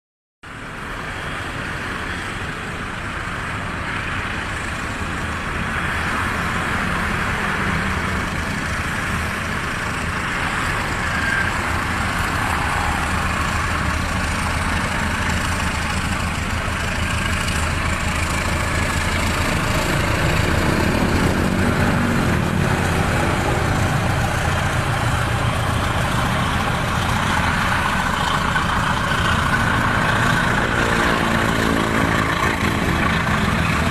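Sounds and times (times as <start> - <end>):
train engine and wheels rumbling: 0.4 - 33.9.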